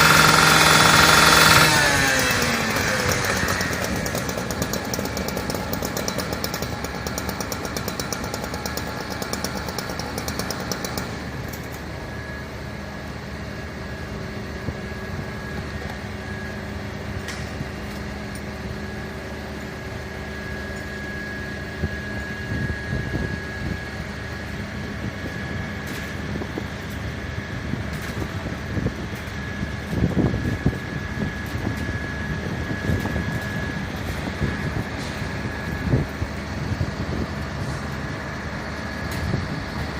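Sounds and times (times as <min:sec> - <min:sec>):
fire engine motor running: 0:00.0 - 0:39.9
high-pitched whine: 0:00.0 - 0:39.9.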